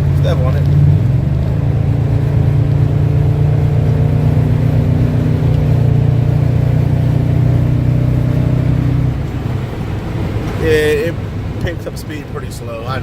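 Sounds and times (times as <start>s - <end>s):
deep exhaust drone: 0.0s - 12.0s
truck engine accelerating: 0.0s - 13.0s.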